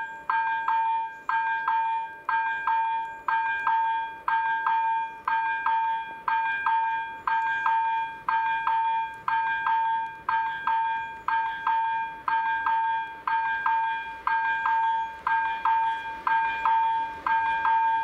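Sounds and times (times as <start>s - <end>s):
level crossing bell ringing: 0.0s - 18.0s.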